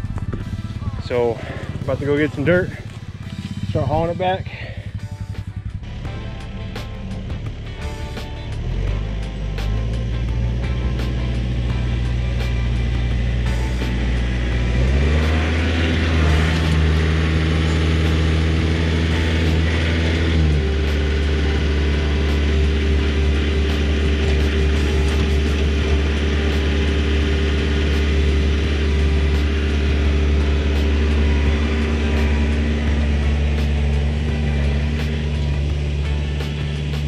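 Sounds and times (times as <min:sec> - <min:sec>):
tractor diesel engine running: 0:00.0 - 0:37.0
loader scooping dirt: 0:05.9 - 0:37.0.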